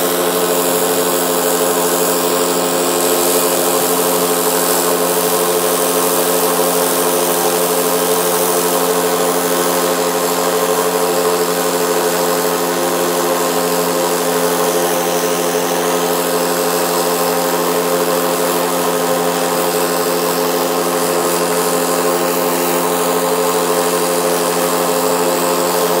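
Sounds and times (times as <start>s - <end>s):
paramotor engine droning: 0.0s - 26.0s.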